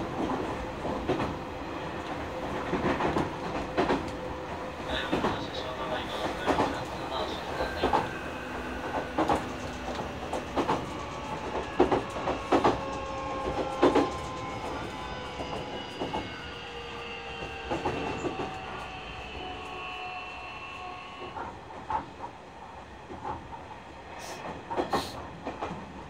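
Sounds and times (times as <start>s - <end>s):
train wheels clacking: 0.0s - 20.2s, 20.8s - 22.4s, 23.0s - 25.9s.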